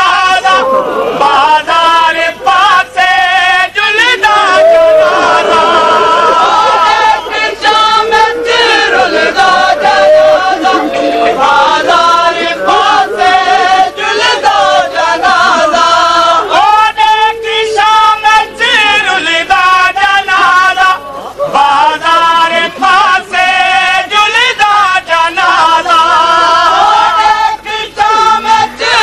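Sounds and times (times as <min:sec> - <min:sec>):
voices chanting a lament: 0:00.0 - 0:29.0.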